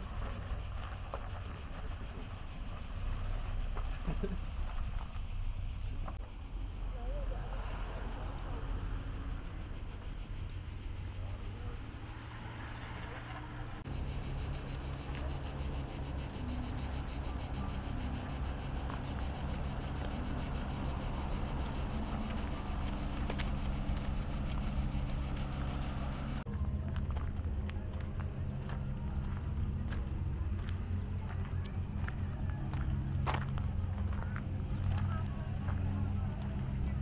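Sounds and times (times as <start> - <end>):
cicadas buzzing: 0.0 - 26.5, 27.1 - 37.0.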